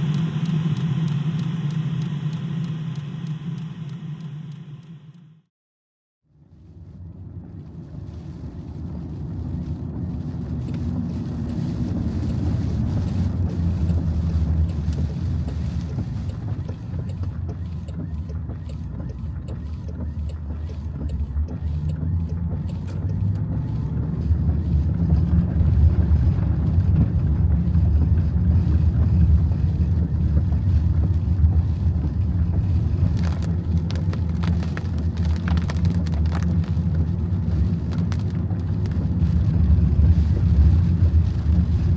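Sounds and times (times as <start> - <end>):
vehicle engine and road noise: 0.0 - 5.5, 6.2 - 41.9.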